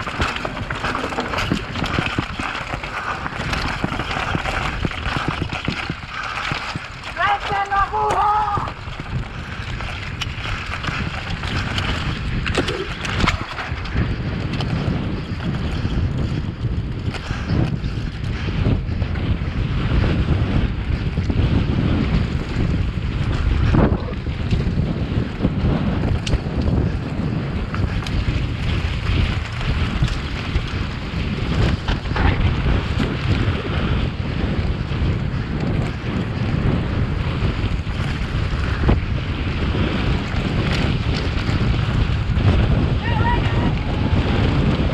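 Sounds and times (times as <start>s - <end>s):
mountain bike rattling over rocks: 0.0s - 44.9s
wind buffeting microphone: 0.0s - 44.9s.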